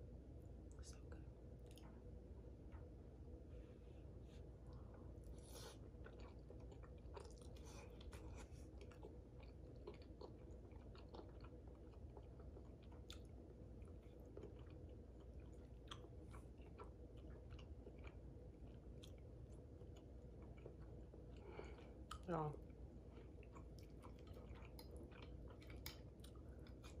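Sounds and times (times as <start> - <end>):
low room hum: 0.0 - 27.0
person chewing food: 4.2 - 27.0.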